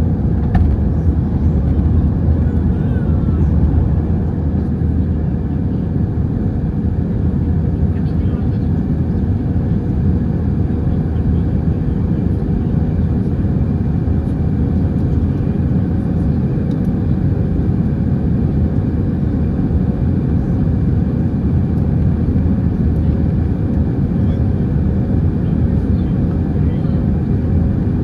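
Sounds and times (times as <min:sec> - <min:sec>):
airliner cabin rumble: 0:00.0 - 0:28.0.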